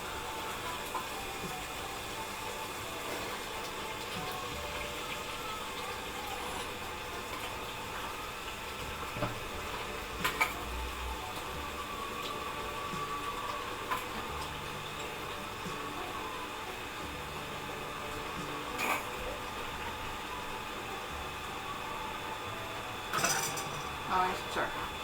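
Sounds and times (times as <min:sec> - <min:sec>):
pot of sauce simmering: 0:00.0 - 0:22.9.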